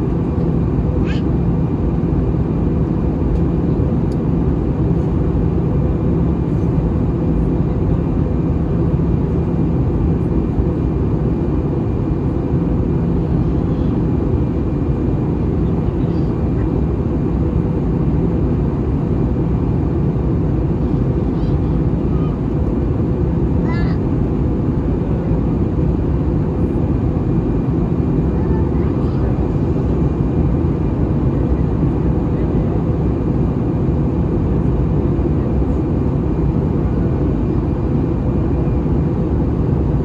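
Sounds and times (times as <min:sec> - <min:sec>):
airliner cabin engine rumble: 0:00.0 - 0:40.0.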